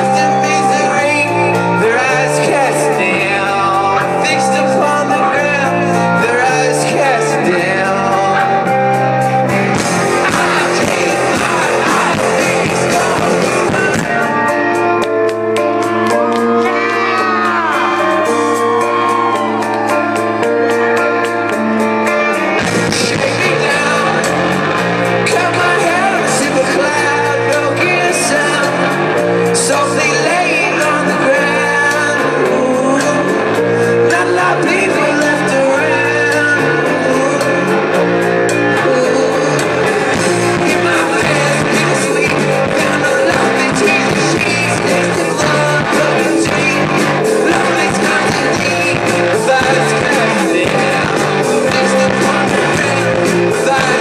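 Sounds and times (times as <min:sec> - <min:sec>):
bass guitar: 0:00.0 - 0:54.0
electric guitar: 0:00.0 - 0:54.0
male lead vocal: 0:00.0 - 0:54.0
steady drum beat: 0:00.0 - 0:54.0.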